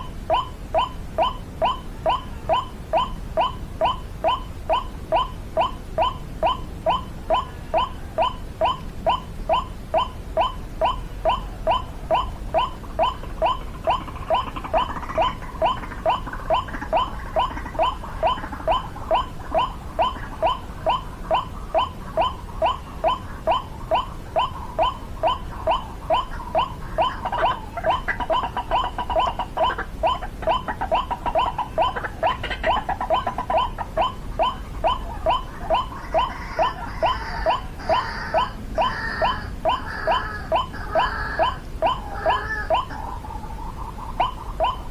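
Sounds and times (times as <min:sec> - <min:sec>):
fainter irregular bird calling: 0:00.0 - 0:44.9
waterhen calling: 0:00.0 - 0:44.9.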